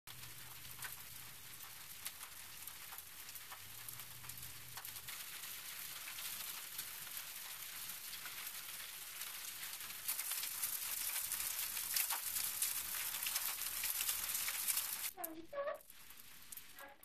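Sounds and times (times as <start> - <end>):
light rain hissing: 0.1 - 17.0
raindrop ticks: 0.1 - 17.0.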